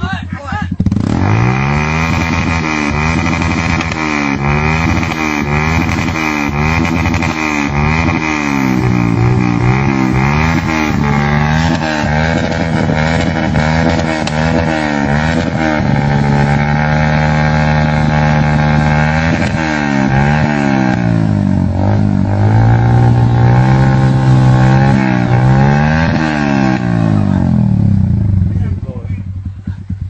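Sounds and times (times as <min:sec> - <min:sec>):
motorcycle engine revving: 0:00.6 - 0:30.0.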